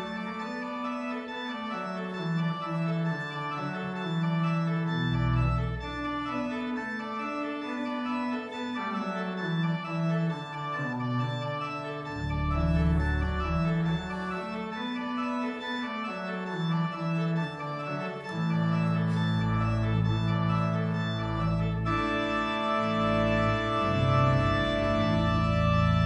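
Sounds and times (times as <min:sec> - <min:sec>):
church organ chords: 0:00.0 - 0:26.0
deep organ pedal bass notes: 0:00.0 - 0:26.0.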